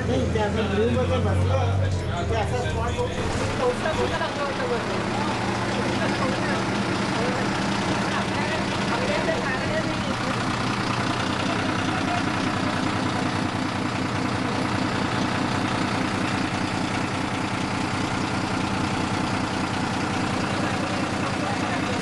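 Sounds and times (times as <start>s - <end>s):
city street traffic: 0.0s - 22.0s
heavy vehicle engine humming: 0.0s - 22.0s.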